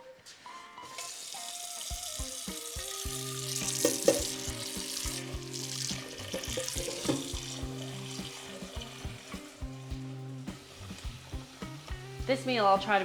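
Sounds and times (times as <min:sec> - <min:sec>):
background music: 0:00.0 - 0:13.0
tap water running into a pot: 0:00.8 - 0:13.0.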